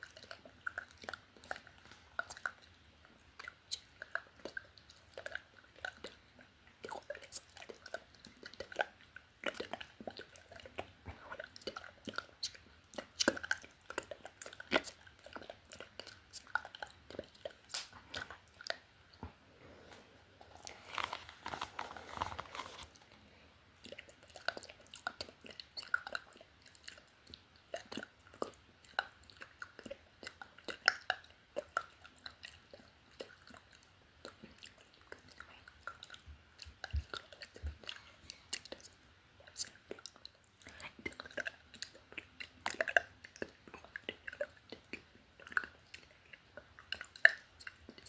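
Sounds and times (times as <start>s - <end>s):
wet tongue and lip clicks: 0.0s - 19.2s, 23.8s - 48.0s.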